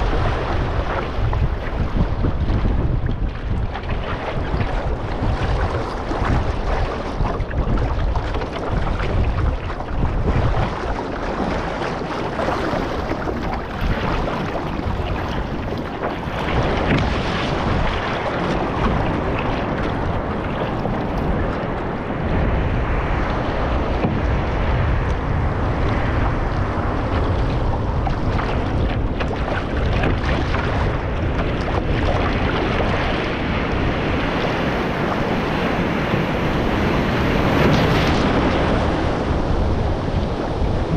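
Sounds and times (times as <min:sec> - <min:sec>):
surf breaking: 0:00.0 - 0:40.9
water rushing and splashing: 0:00.0 - 0:40.9
wind buffeting microphone: 0:00.0 - 0:40.9.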